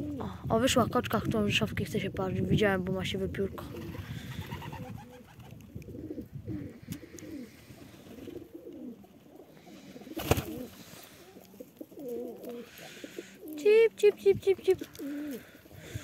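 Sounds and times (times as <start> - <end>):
pigeons cooing: 0.0 - 0.4, 3.3 - 16.0.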